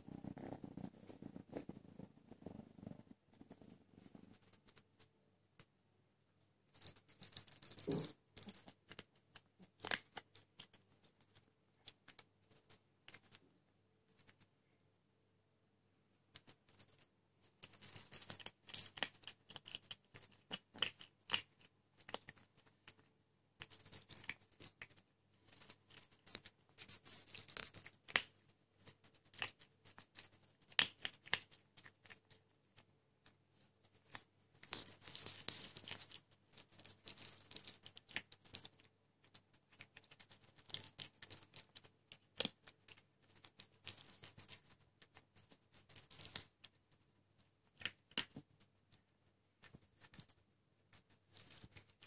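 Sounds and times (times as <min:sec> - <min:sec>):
kitten crunching kibble: 0:00.0 - 0:05.1, 0:06.7 - 0:13.5, 0:16.3 - 0:52.0.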